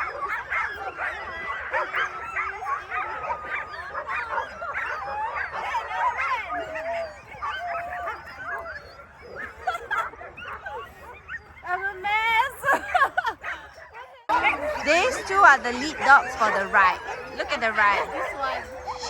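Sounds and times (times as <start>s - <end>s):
dogs barking yipping and whining: 0.0s - 19.0s.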